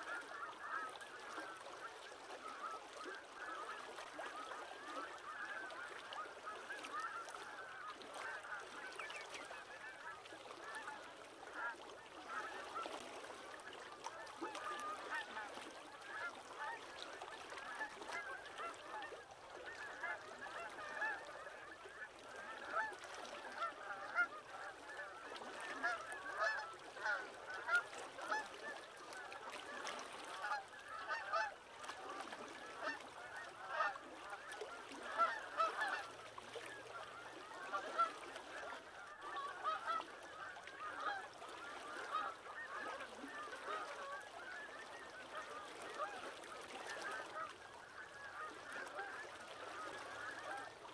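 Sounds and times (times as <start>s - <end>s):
flock of water birds calling: 0.0s - 50.9s.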